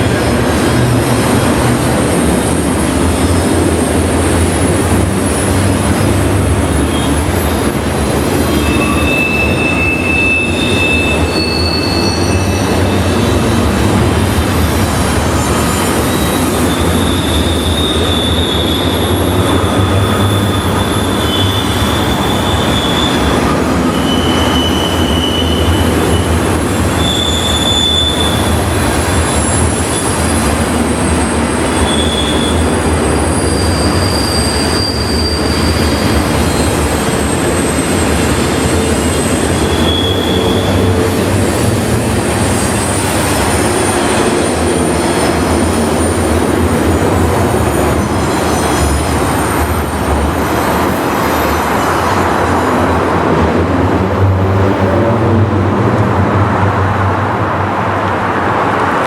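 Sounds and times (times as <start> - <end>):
wheels squealing against rail: 0.0 - 53.5
freight train rumbling: 0.0 - 59.0.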